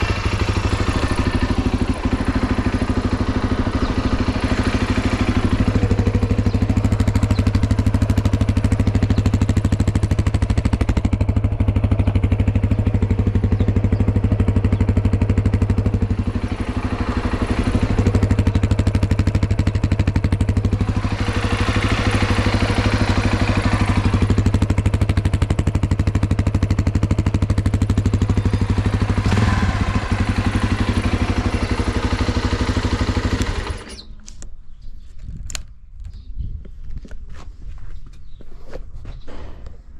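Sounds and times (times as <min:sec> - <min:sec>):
motorcycle engine idling: 0:00.0 - 0:34.2.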